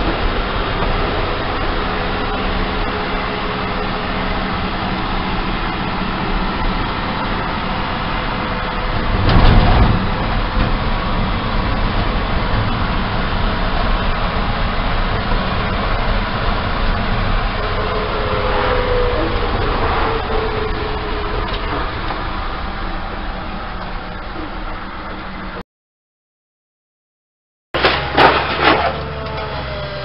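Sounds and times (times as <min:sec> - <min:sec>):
engine and road rumble: 0:00.0 - 0:25.6, 0:27.8 - 0:30.0.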